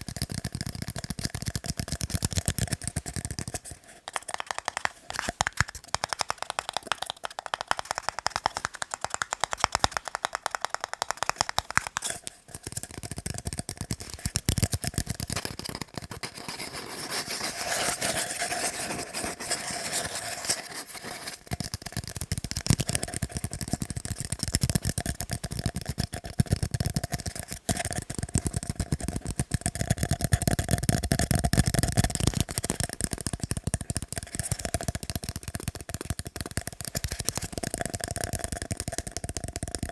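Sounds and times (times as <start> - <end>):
fast tapping on tiny cups: 0.0 - 20.6, 21.2 - 39.9.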